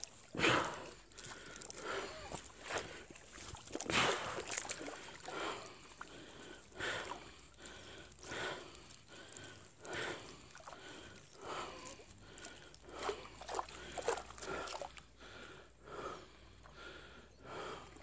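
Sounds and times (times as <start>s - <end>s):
rhythmic swishing of water: 0.0s - 18.0s.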